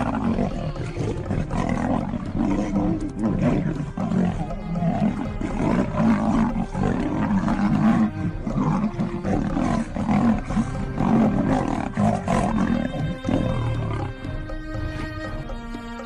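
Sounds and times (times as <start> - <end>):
big cats roaring: 0.0 - 15.4
music: 0.0 - 16.0.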